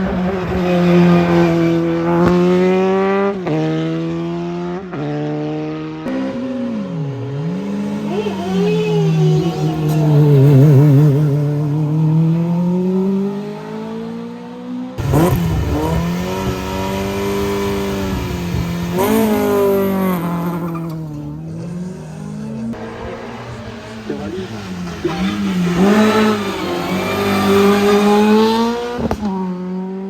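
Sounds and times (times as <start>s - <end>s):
race car engines at full throttle: 0.0s - 30.0s.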